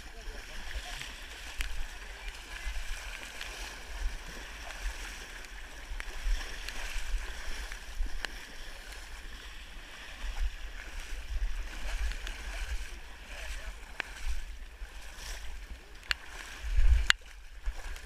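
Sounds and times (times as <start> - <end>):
wading and splashing through water: 0.0 - 18.0
wind rumble on microphone: 0.0 - 18.0.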